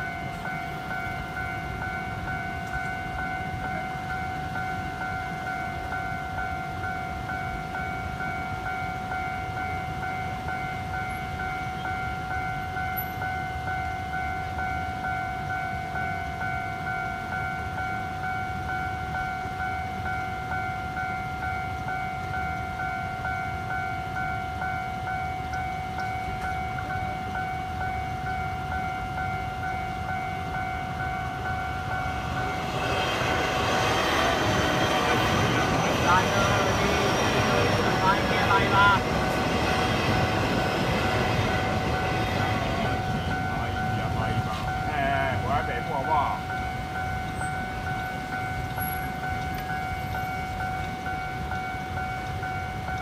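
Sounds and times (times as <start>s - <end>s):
level-crossing warning bell: 0.0s - 53.0s
train wheels rumbling on rails: 0.0s - 53.0s.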